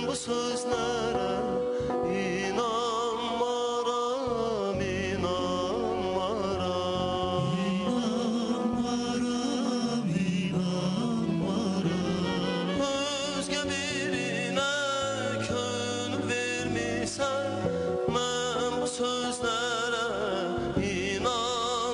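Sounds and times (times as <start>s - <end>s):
instrumental accompaniment: 0.0s - 21.9s.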